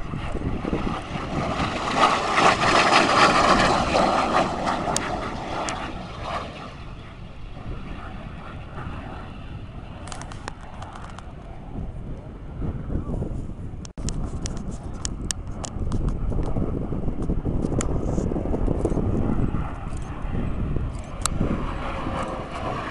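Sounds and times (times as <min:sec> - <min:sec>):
jet flying past: 0:00.0 - 0:22.9.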